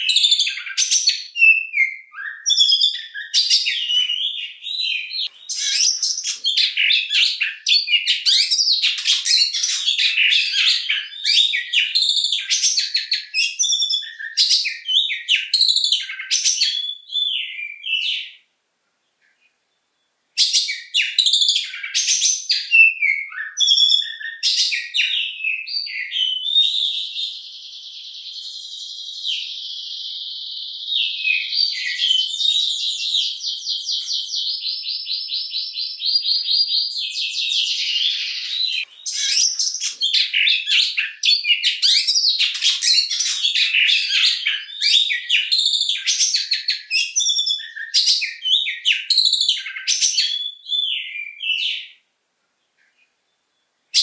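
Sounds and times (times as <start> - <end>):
bird singing whistled phrases: 0.0 - 18.4, 20.4 - 52.0.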